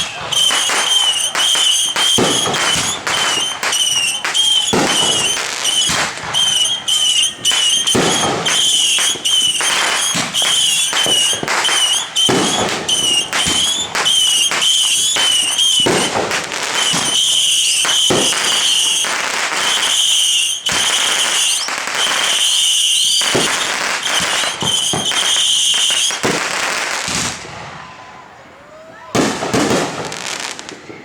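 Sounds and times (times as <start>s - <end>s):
fireworks crackling and banging: 0.0s - 28.0s, 29.0s - 31.0s.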